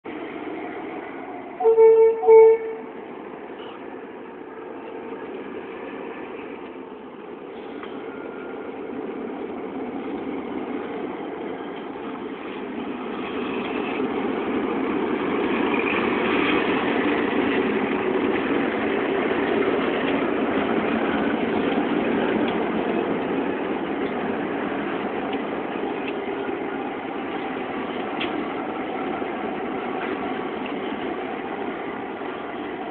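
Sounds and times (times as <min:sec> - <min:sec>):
diesel locomotives passing: 0:00.0 - 0:32.9.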